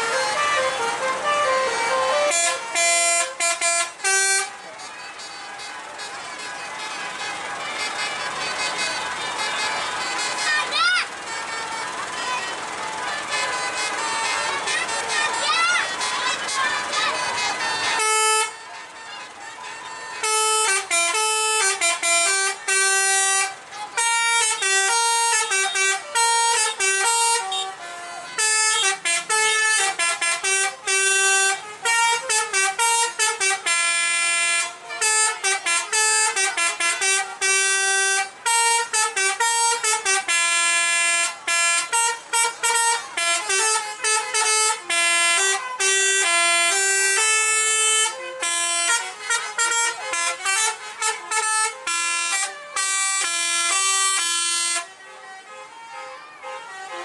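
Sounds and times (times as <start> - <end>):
bus horns playing melodic tunes: 0.0 - 57.0.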